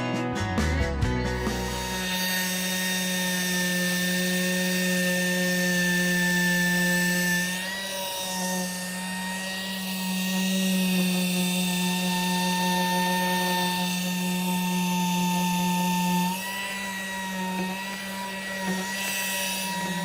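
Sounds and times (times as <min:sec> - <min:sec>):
pneumatic tool whining: 0:01.3 - 0:20.0.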